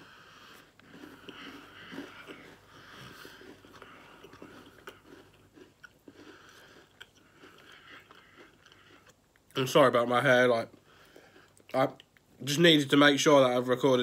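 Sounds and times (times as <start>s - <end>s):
person chewing crunchy cookie: 0.0s - 9.8s, 10.6s - 12.3s.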